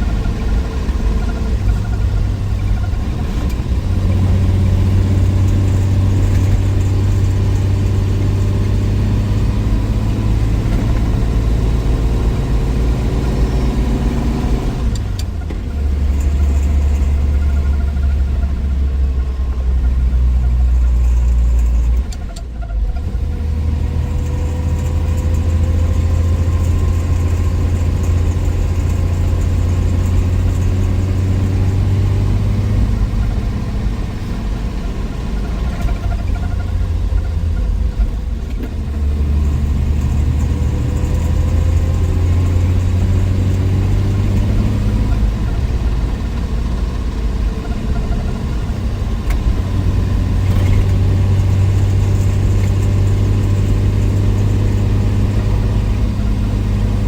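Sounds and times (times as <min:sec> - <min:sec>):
car engine running on road: 0:00.0 - 0:57.0.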